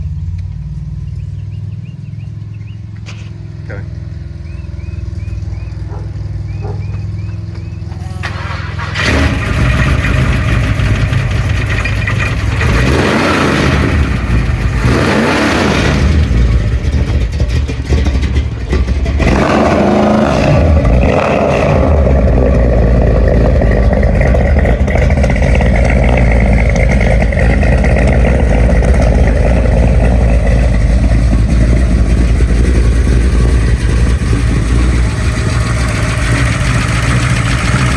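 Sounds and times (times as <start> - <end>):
pickup engine starting and revving: 0.0 - 37.9.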